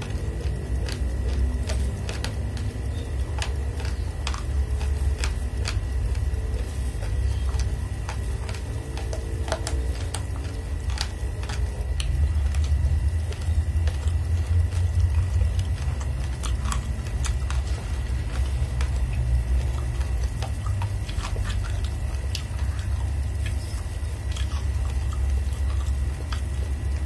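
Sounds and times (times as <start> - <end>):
rice grains crunching when chewed: 0.0 - 27.0
steady low hum: 0.0 - 27.0.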